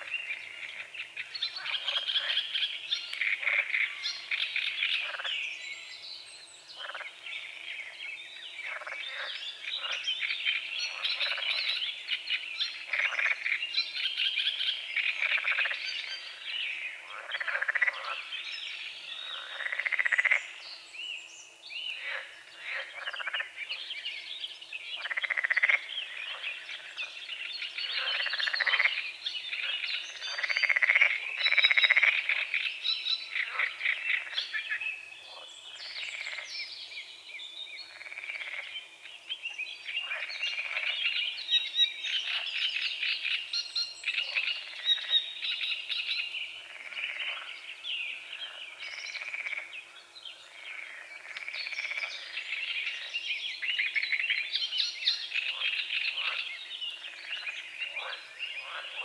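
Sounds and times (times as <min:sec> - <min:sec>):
frogs croaking: 0:00.0 - 0:05.6, 0:06.8 - 0:08.0, 0:08.6 - 0:20.8, 0:21.9 - 0:24.3, 0:25.0 - 0:36.7, 0:37.8 - 0:39.2, 0:39.8 - 0:59.0
songbirds singing: 0:00.0 - 0:59.0.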